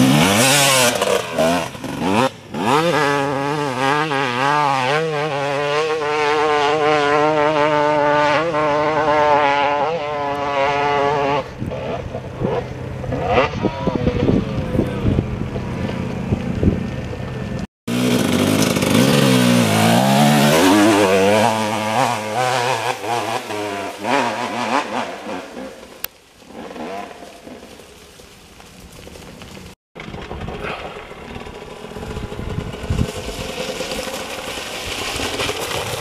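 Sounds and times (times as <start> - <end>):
dirt bike engine high revs: 0.0 - 27.8, 30.0 - 36.0
dirt bike revving past: 0.0 - 27.8, 30.0 - 36.0.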